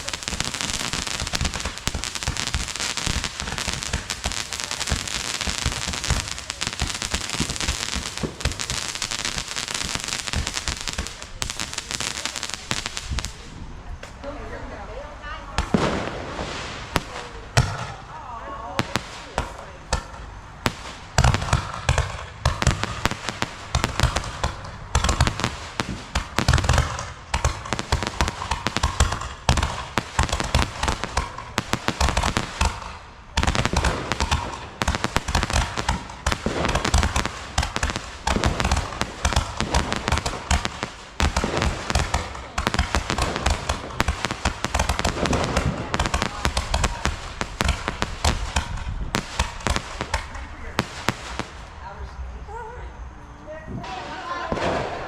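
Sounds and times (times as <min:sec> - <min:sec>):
fireworks banging and crackling: 0:00.0 - 0:52.6, 0:53.8 - 0:55.0.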